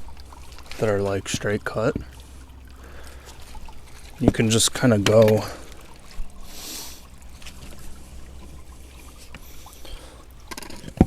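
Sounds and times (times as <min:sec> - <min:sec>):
loppers crunching wood: 0:00.0 - 0:11.0.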